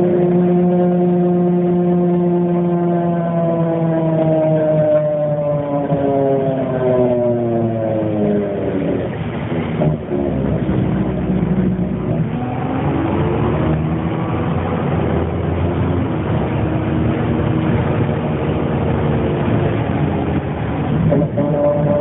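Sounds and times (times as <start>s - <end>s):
bus engine rumble: 0.0s - 22.0s
whining tones rising and falling: 0.0s - 22.0s.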